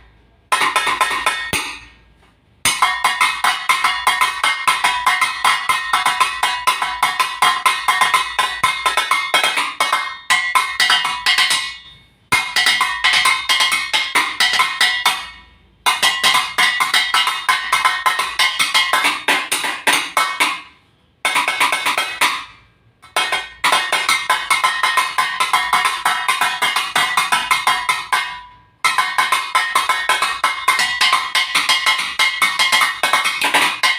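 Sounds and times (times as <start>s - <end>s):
scrap metal struck as percussion: 0.0s - 33.9s.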